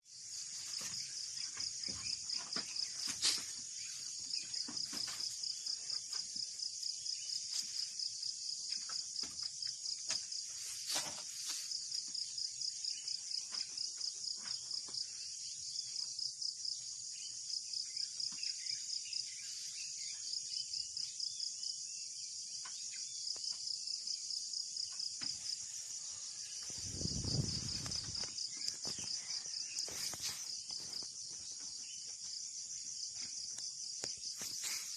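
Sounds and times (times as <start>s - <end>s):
insects chirring: 0.1s - 34.9s.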